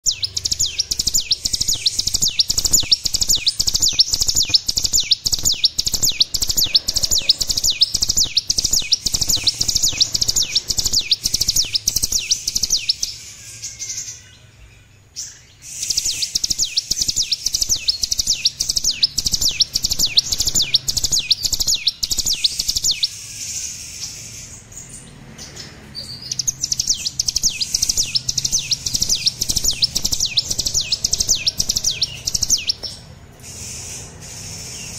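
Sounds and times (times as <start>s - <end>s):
bird singing high sharp notes: 0.0s - 34.9s.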